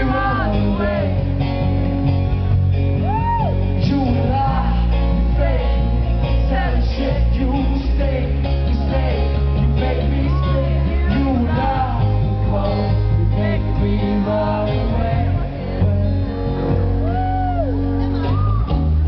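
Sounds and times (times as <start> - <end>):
man singing into a microphone: 0.0 - 1.9, 3.6 - 17.2
acoustic guitar: 0.0 - 19.0.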